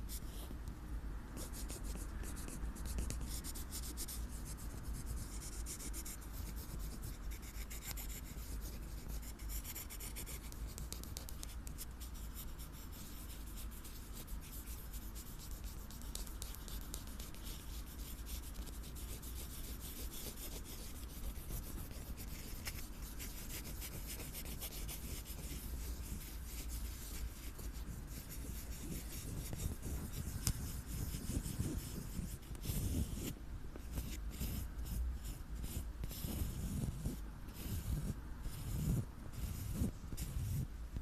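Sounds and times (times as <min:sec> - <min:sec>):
scratching and rubbing on surface: 0:01.4 - 0:40.7.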